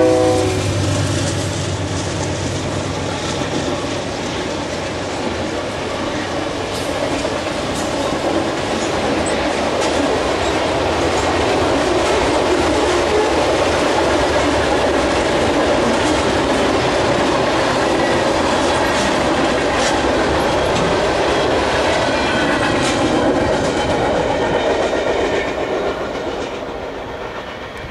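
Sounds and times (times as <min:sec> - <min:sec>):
freight train wheels rumbling: 0:00.0 - 0:27.9
wheels clacking over rail joints: 0:00.0 - 0:27.9.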